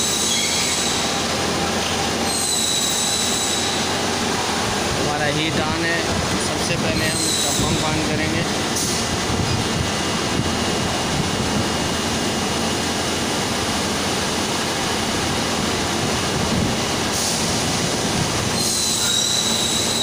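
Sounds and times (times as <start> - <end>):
factory running noise: 0.0 - 20.0
hydraulic pump humming and hissing: 0.0 - 20.0.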